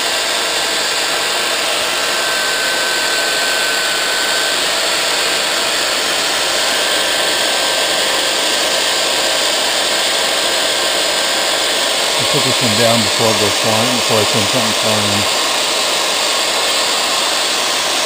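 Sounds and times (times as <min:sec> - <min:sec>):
belt sander running: 0:00.0 - 0:18.0.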